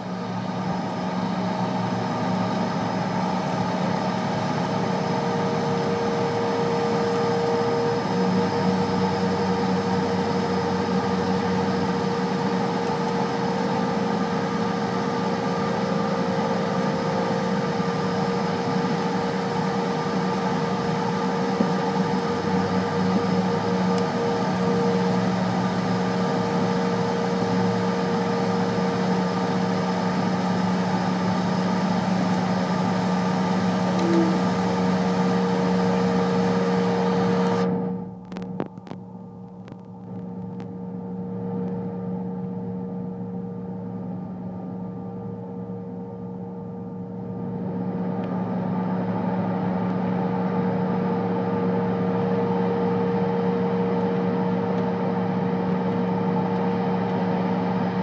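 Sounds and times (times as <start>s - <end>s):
jet engines idling in cabin: 0.0s - 58.0s.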